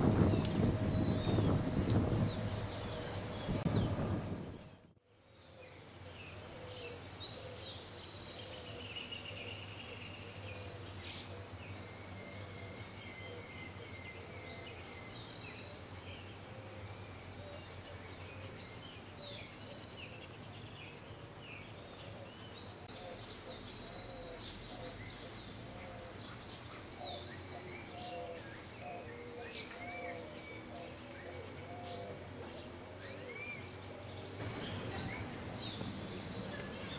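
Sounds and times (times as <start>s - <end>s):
small birds chirping and singing: 0.0s - 36.9s.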